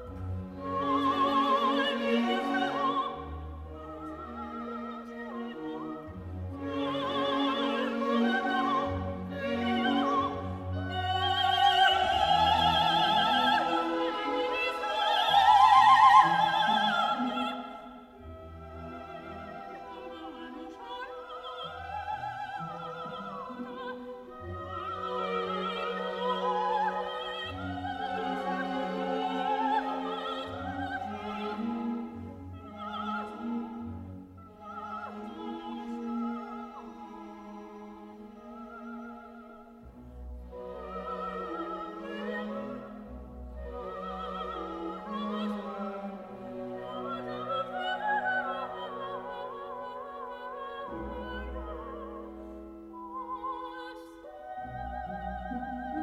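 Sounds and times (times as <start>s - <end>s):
operatic singing with vibrato: 0.0s - 39.8s, 40.5s - 56.0s
orchestra playing: 0.0s - 56.0s.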